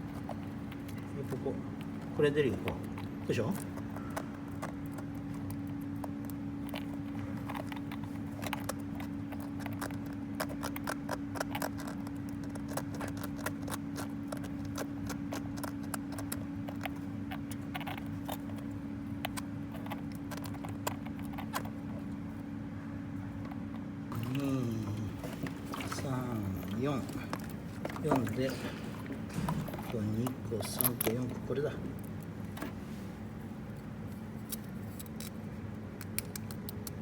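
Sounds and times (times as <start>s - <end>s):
hatchling clicking and scratching: 0.0s - 22.2s, 25.1s - 32.8s, 36.0s - 37.0s
steady low hum: 0.0s - 37.0s.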